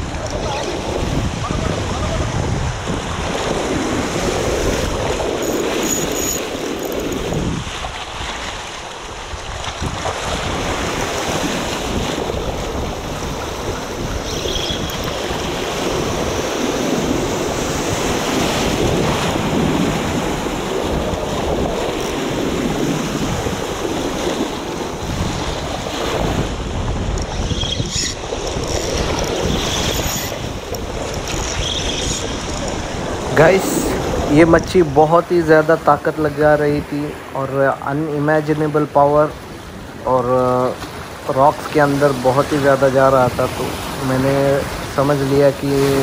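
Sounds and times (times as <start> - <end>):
wind buffeting microphone: 0.0 - 38.4
surf washing against rocks: 0.0 - 46.0.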